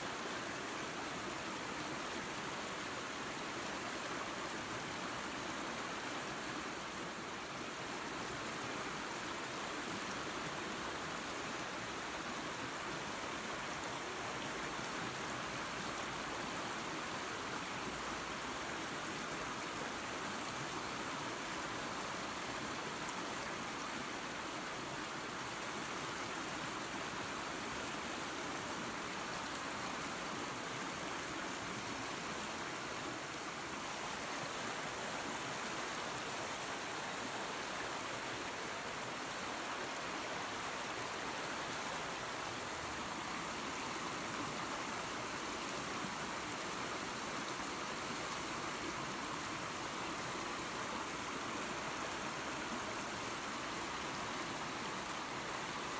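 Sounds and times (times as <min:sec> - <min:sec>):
waterfall and creek rushing: 0:00.0 - 0:55.9.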